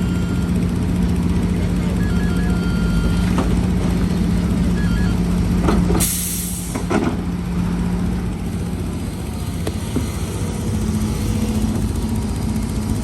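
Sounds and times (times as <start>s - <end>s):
heavy diesel machinery droning: 0.0s - 13.0s.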